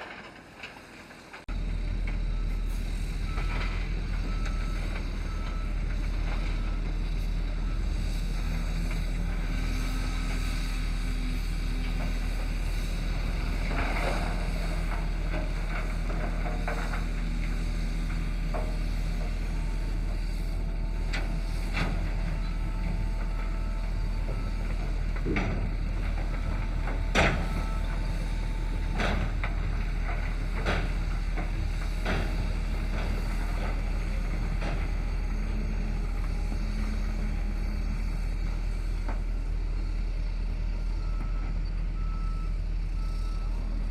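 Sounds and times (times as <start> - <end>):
heavy diesel machinery rumbling: 0.0 - 43.9.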